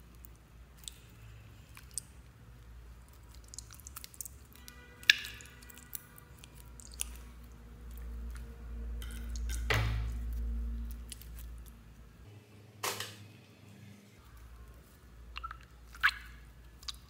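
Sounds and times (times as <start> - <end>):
wet squelching: 0.0 - 12.1, 14.2 - 17.0.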